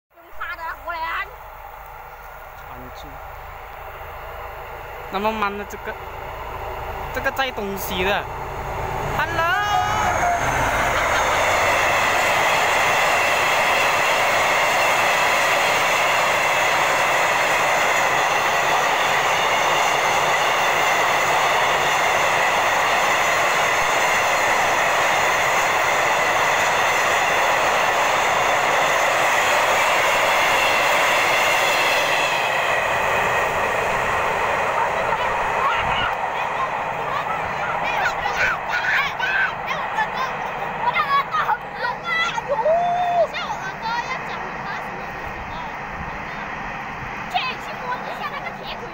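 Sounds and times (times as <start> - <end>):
steel wheels on rail: 0.2 - 48.9.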